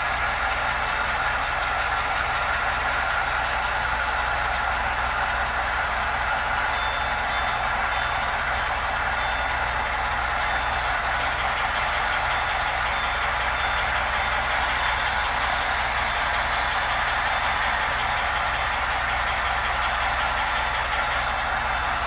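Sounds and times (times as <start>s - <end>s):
model train wheels rumbling on rails: 0.0s - 22.0s.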